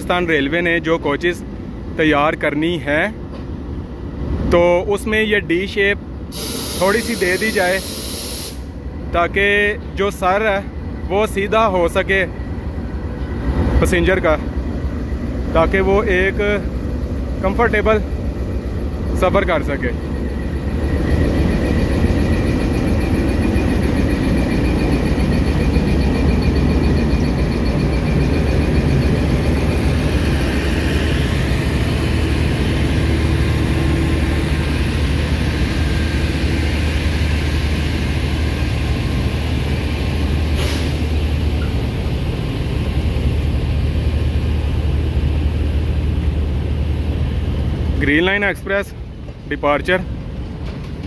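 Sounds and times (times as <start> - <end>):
diesel locomotive drone: 0.0 - 51.0
train wheels rumbling on rails: 0.0 - 51.0.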